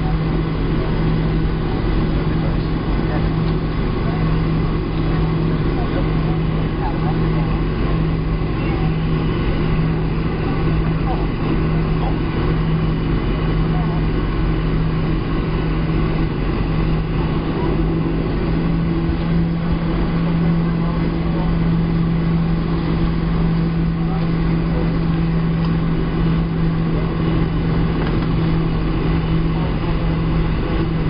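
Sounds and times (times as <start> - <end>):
airplane cabin drone: 0.0 - 31.0.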